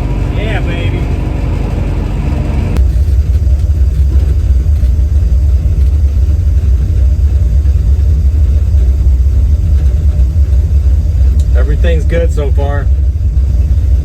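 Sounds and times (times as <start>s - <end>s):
car engine exhaust rumble: 0.0s - 14.0s.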